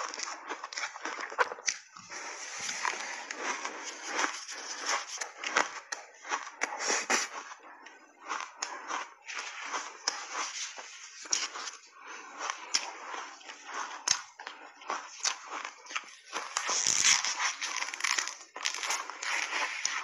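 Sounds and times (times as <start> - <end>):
ice being crunched and chewed: 0.0 - 20.0.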